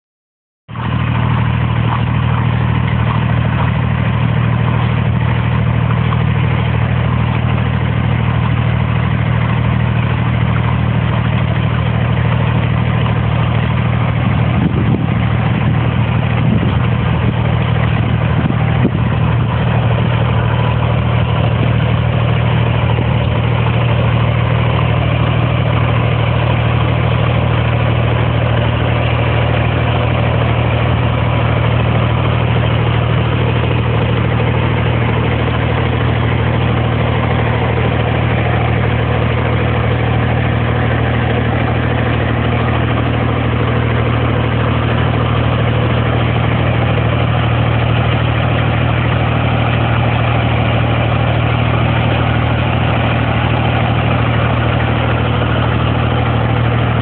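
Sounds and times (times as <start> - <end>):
engine running steadily: 0.7 - 57.0.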